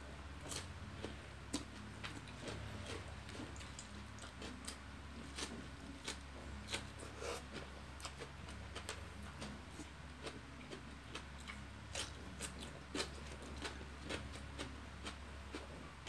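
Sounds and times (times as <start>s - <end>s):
steady low hum: 0.0s - 16.0s
chewing and lip smacks: 0.5s - 15.8s.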